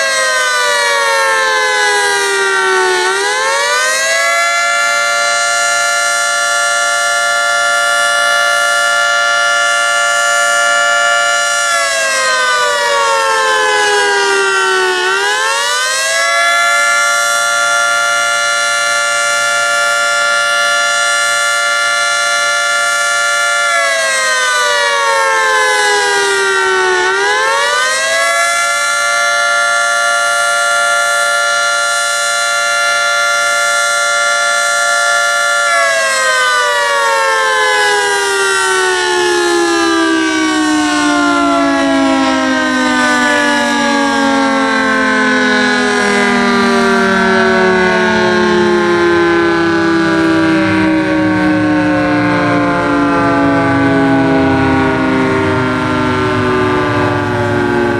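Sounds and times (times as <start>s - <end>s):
warning siren wailing: 0.0s - 57.9s.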